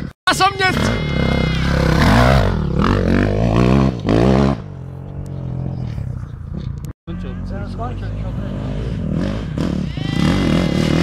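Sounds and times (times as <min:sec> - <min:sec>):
dirt bike engine revving: 0:00.0 - 0:06.1, 0:07.3 - 0:11.0.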